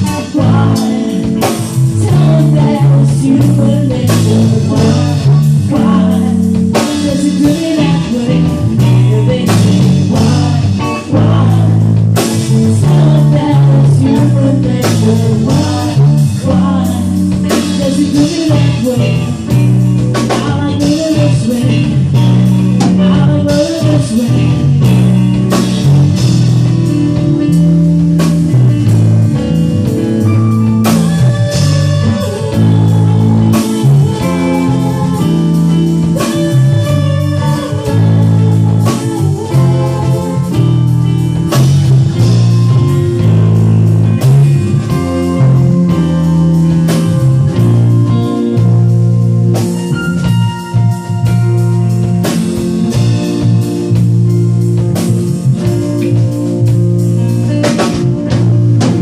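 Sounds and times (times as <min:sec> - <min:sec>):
instrumental band music: 0:00.0 - 0:59.0.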